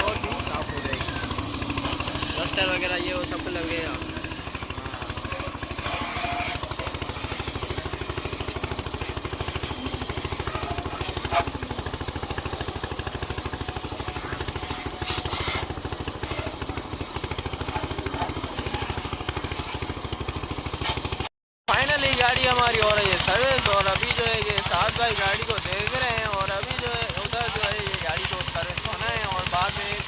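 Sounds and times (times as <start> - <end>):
pressure washer pump pulsing: 0.0 - 30.0.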